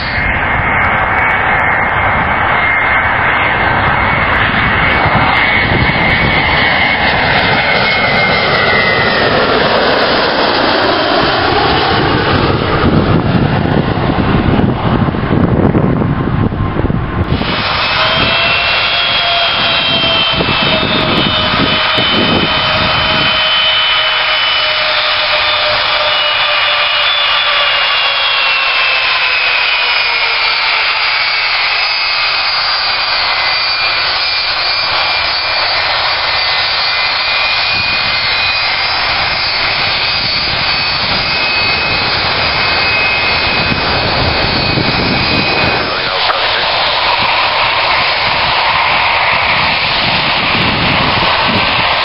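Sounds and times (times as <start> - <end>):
heavy low rumble: 0.0 - 52.0
jet engines whining: 0.0 - 52.0.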